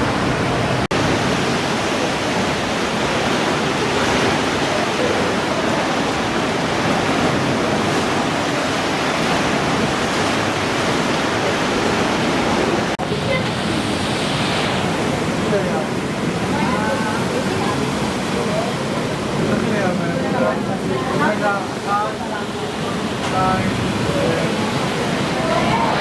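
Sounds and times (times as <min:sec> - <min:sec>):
surf washing against rocks: 0:00.0 - 0:26.0.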